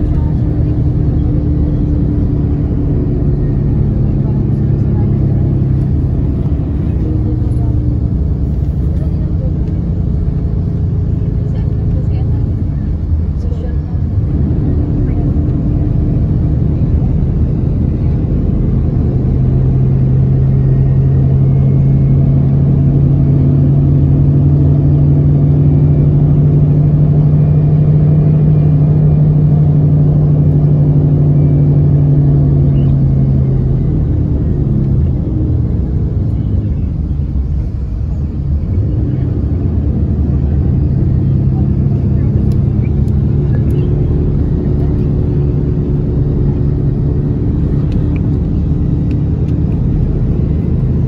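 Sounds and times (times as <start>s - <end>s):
bus engine: 0.0s - 51.0s
tyres rumbling on road: 0.0s - 51.0s.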